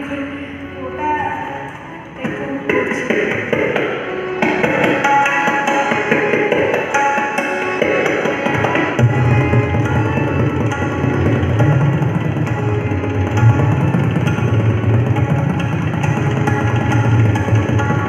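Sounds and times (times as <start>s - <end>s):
harmonium melody: 0.0s - 18.0s
rapid tabla strokes: 2.2s - 18.0s.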